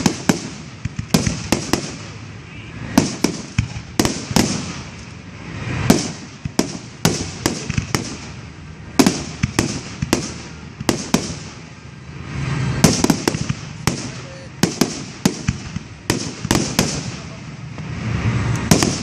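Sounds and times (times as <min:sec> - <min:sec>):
fireworks bursting with echo: 0:00.0 - 0:19.0.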